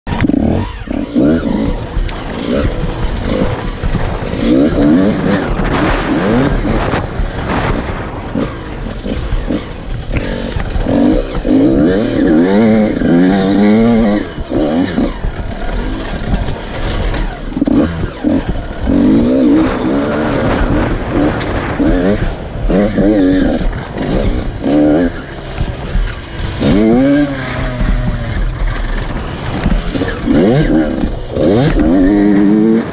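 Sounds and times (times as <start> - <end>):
dirt bike engine revving: 0.1 - 32.9.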